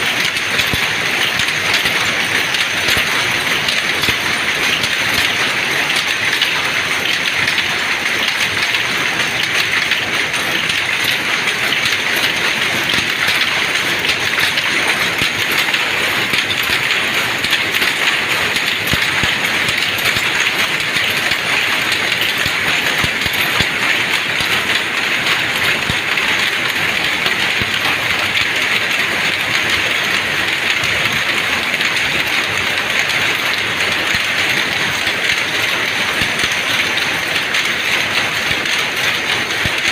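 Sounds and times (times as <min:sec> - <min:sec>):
power looms clattering: 0:00.0 - 0:39.9.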